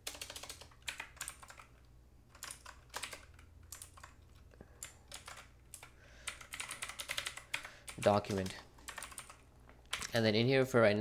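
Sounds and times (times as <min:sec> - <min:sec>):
computer keyboard typing: 0:00.0 - 0:10.2
low steady hum: 0:00.0 - 0:11.0.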